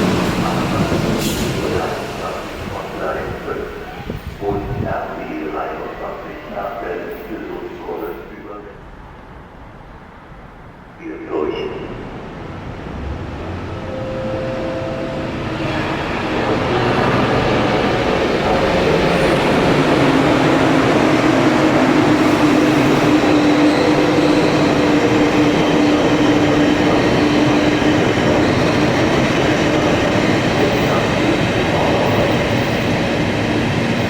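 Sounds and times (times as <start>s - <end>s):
train passing on rails: 0.0s - 34.0s.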